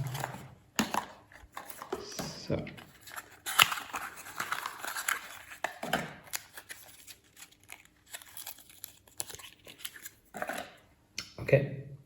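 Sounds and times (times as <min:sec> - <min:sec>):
packaging clicking and rustling: 0:00.0 - 0:02.2, 0:02.8 - 0:10.8.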